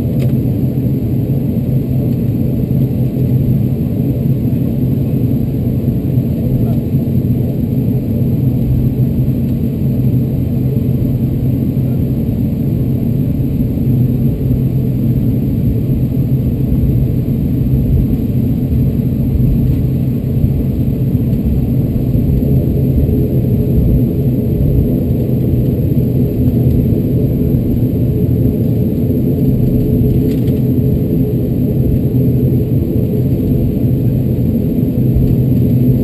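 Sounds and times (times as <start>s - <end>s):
turboprop engine drone: 0.0s - 36.0s.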